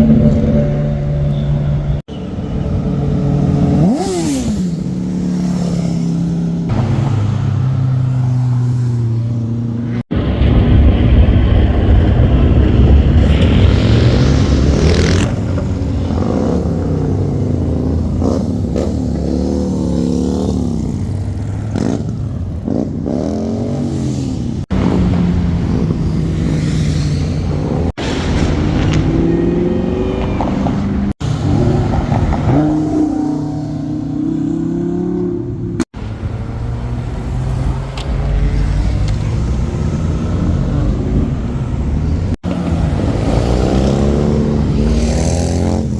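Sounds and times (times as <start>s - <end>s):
cars accelerating and revving past: 2.8s - 10.0s, 12.8s - 45.9s.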